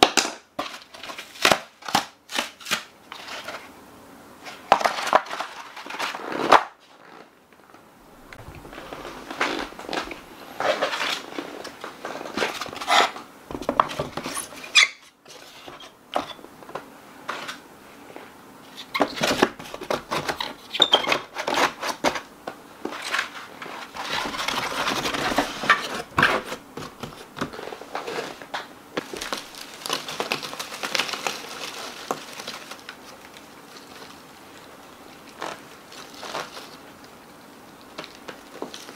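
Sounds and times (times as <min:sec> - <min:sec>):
paper egg trays rustling: 0:00.6 - 0:03.7, 0:04.4 - 0:07.3, 0:08.3 - 0:38.9.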